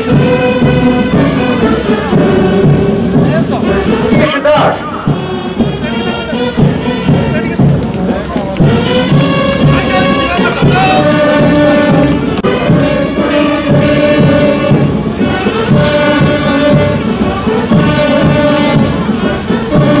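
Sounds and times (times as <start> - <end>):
brass background music with beat: 0.0 - 20.0.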